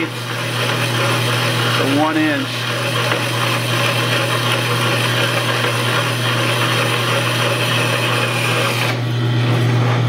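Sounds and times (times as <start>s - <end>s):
bandsaw cutting metal: 0.0s - 9.6s
bandsaw low hum: 0.0s - 10.0s.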